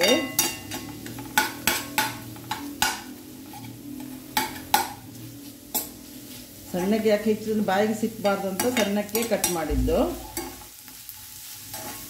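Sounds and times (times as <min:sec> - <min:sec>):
metal spoon scraping a frying pan: 0:00.0 - 0:07.0, 0:08.2 - 0:12.0.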